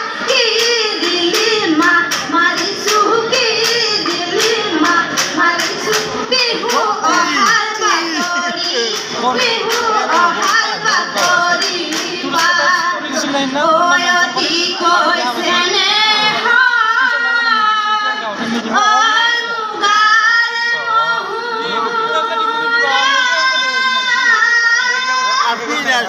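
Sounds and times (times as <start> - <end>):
women singing folk song: 0.0 - 25.4.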